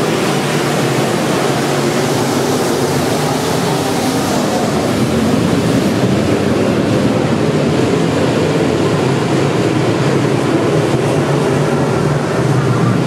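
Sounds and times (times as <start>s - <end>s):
race car engines roaring: 0.0s - 13.0s.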